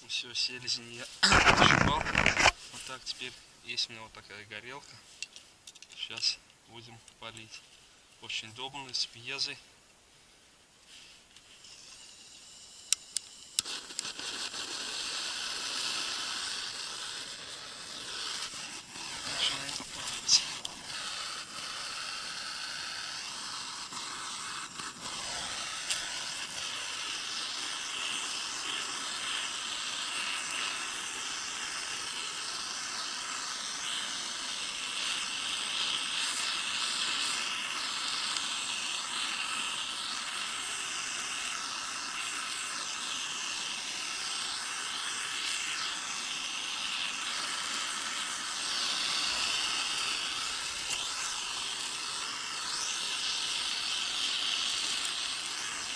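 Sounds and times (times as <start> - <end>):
gas torch hissing: 0.0 - 4.0, 10.8 - 55.9.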